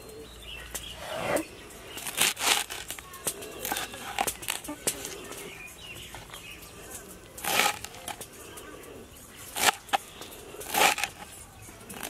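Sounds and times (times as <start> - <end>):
rustle of stems and leaves: 0.0 - 8.7, 9.4 - 12.0.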